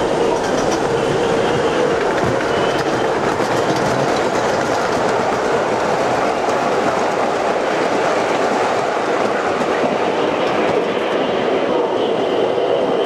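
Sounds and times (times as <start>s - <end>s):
model train wheels rolling on rail: 0.0s - 11.7s.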